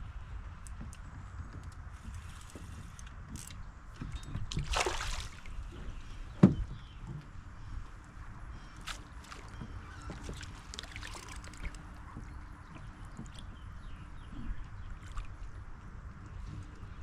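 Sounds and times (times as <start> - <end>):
water lapping against kayak hull: 0.1 - 17.0.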